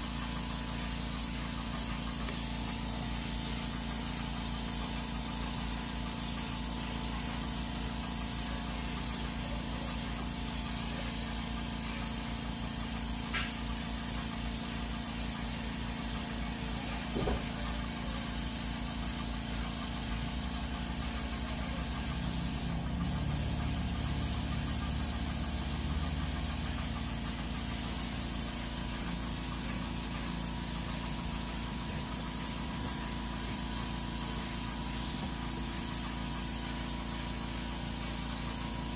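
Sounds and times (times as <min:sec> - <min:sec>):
air compressor motor running: 0:00.0 - 0:38.9
spray gun hissing: 0:00.0 - 0:38.9.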